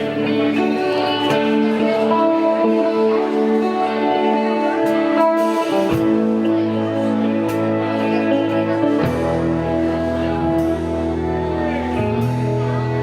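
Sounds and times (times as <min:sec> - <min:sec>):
electric guitar notes ringing: 0:00.0 - 0:13.0.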